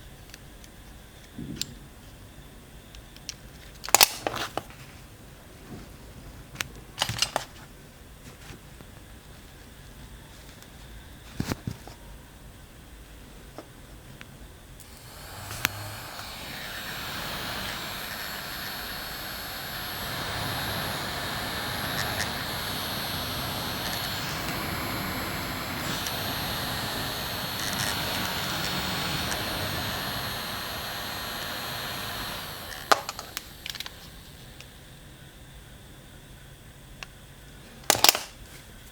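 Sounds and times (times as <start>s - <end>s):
air conditioner fan whine: 0.0s - 38.9s.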